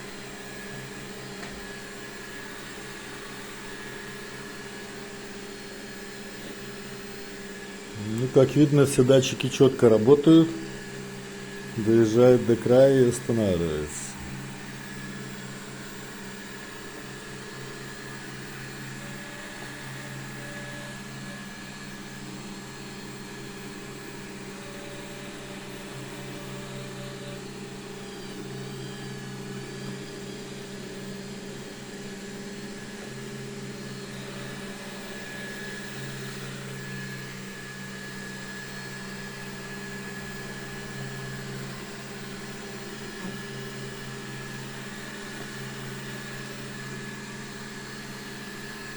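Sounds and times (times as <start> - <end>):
robot vacuum humming: 0.0 - 48.9.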